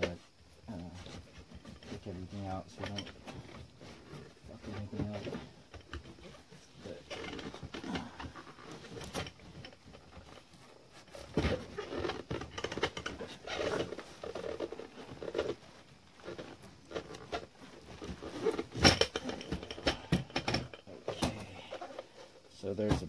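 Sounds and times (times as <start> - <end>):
rubbing and scraping of foam: 0.0 - 20.1.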